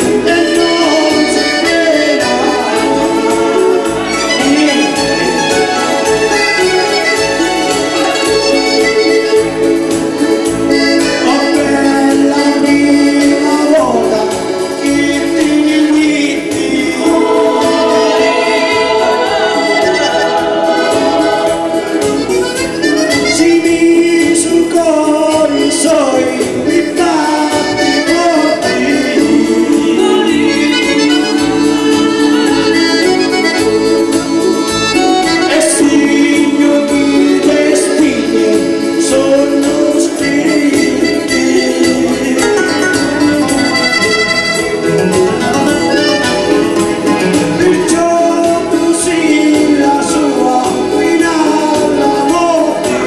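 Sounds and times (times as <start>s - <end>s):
man singing into a microphone: 0.0s - 45.1s, 45.7s - 53.0s
piano accordion playing: 0.0s - 53.0s.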